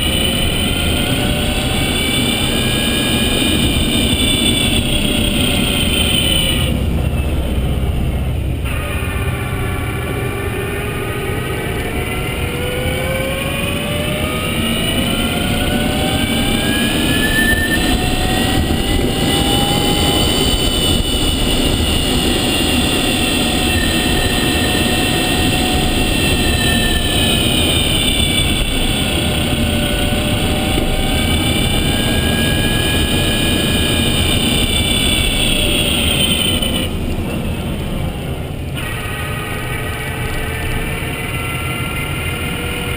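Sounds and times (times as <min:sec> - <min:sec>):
electric car motor whining: 0:00.0 - 0:42.9
road and tyre rumble: 0:00.0 - 0:42.9.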